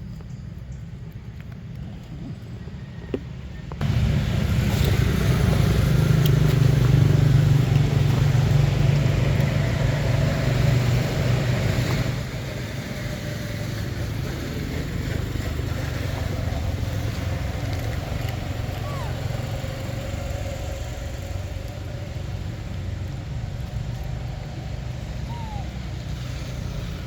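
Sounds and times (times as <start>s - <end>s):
motor engine humming: 3.0s - 27.0s.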